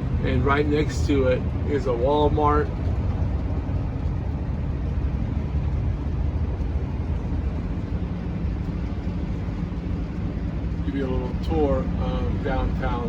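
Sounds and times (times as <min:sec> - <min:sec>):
engine and road noise in cabin: 0:00.0 - 0:13.0.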